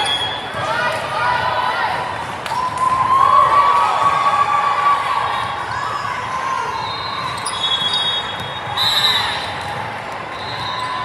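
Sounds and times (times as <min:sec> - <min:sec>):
court noise: 0:00.0 - 0:11.0
crowd chatter: 0:00.0 - 0:11.0.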